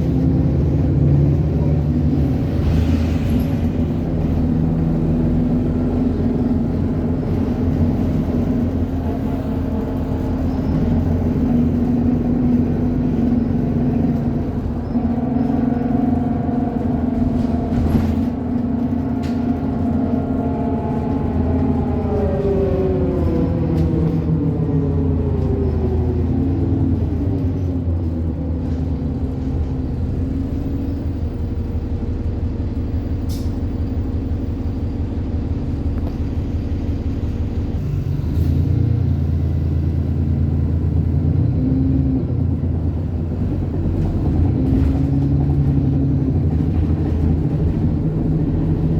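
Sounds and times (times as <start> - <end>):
bus engine drone: 0.0 - 48.9
bus whine: 0.0 - 48.9.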